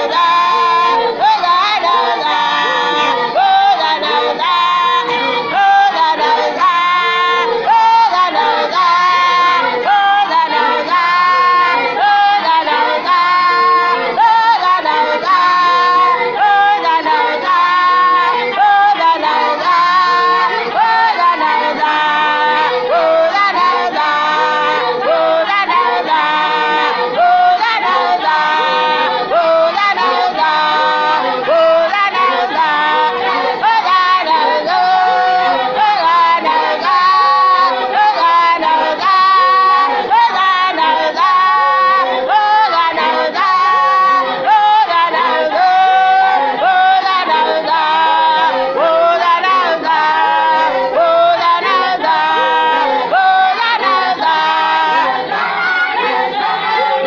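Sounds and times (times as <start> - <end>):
women singing gospel song: 0.0 - 57.0.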